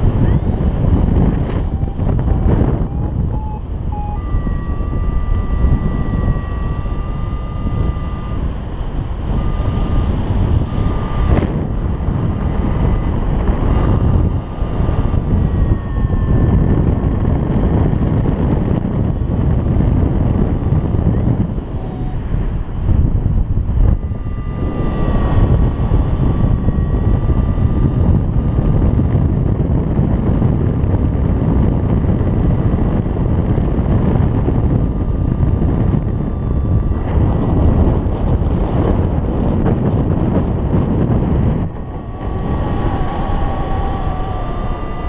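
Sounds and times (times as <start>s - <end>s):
variometer beeps and tones: 0.0s - 45.0s
wind buffeting microphone: 0.0s - 45.0s.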